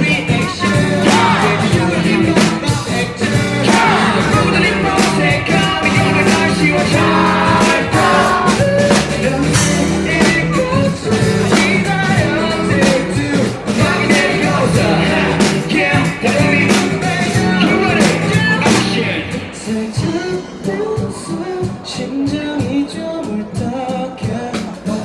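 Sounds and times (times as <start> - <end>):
live pop rock band playing: 0.0 - 25.0
person singing: 0.0 - 25.0.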